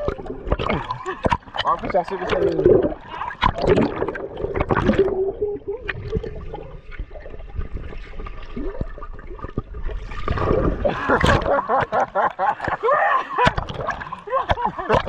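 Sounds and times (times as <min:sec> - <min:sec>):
underwater gurgling and bubbling: 0:00.0 - 0:12.8, 0:13.4 - 0:15.0
water splashing: 0:00.0 - 0:15.0.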